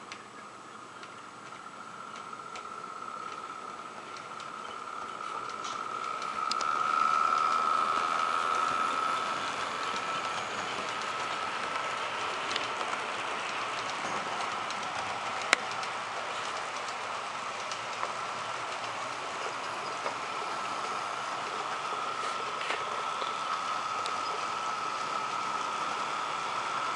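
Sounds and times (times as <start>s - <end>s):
model train running on track: 0.0s - 26.9s.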